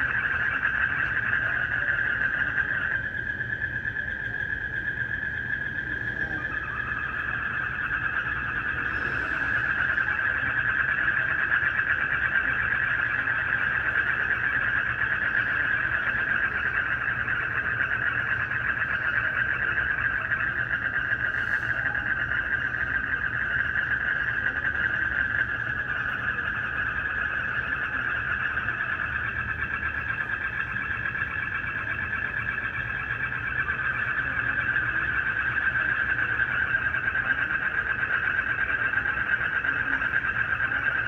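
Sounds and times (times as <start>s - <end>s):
crickets trilling: 0.0s - 41.0s
frogs trilling: 0.0s - 41.0s.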